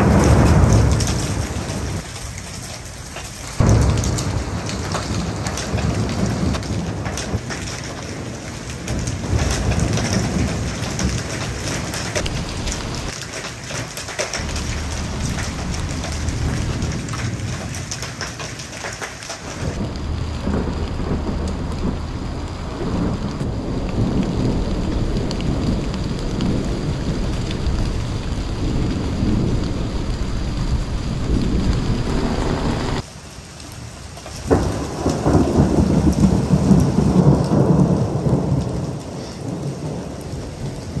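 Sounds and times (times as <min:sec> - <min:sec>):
thunderclap: 0:00.0 - 0:33.1, 0:34.3 - 0:41.0
thunder rumbling: 0:00.0 - 0:33.2, 0:33.8 - 0:41.0
steady rain: 0:00.0 - 0:41.0.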